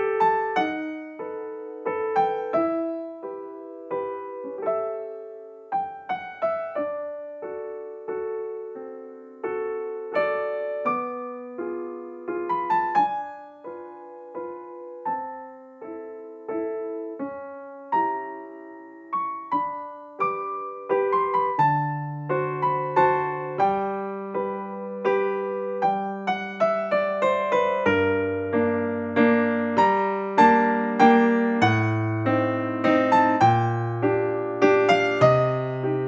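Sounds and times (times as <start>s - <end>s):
gentle piano melody: 0.0s - 36.0s.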